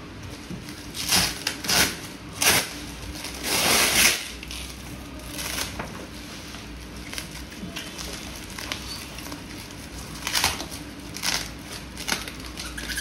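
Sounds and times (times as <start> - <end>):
plastic film crinkling: 0.3 - 13.0.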